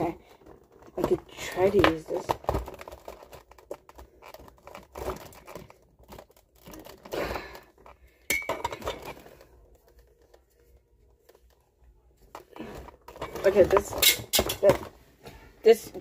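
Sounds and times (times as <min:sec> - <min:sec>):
plastic and cardboard crinkling: 0:00.0 - 0:16.0.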